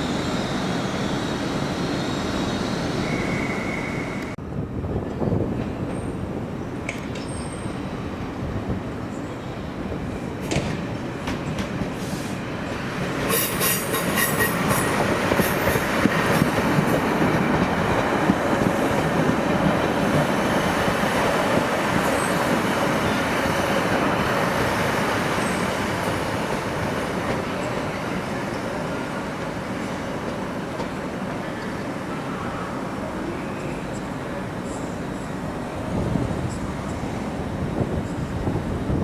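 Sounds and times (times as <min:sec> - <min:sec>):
passenger train running: 0:00.0 - 0:39.0.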